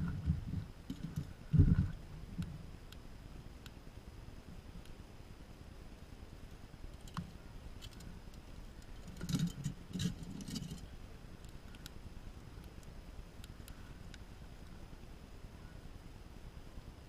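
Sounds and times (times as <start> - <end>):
faint outdoor background: 0.0 - 17.0.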